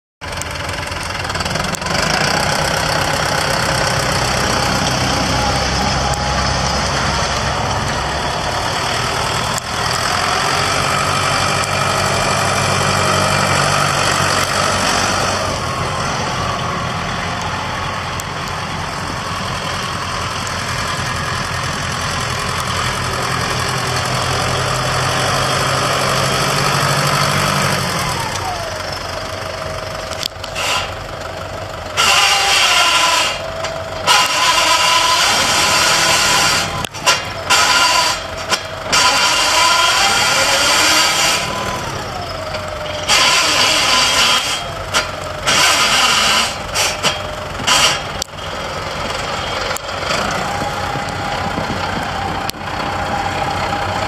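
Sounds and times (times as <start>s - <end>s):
tractor diesel engine running: 0.2s - 54.0s.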